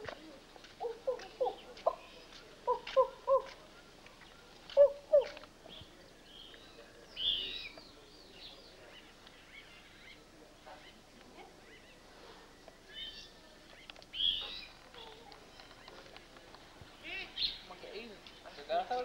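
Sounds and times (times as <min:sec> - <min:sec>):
birds calling and chirping: 0:00.0 - 0:19.0.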